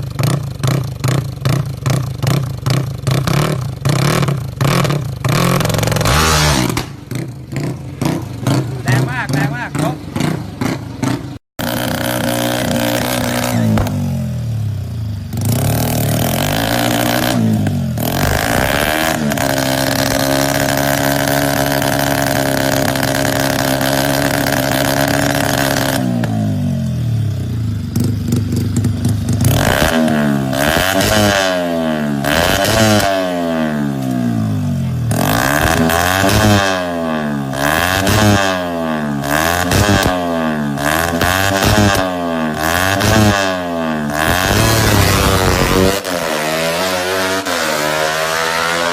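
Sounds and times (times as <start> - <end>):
motorcycle engine revving hard: 0.0 - 48.9.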